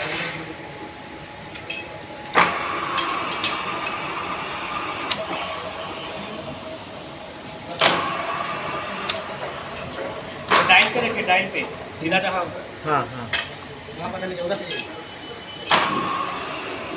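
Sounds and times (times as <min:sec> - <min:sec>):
steady mechanical background: 0:00.0 - 0:16.9.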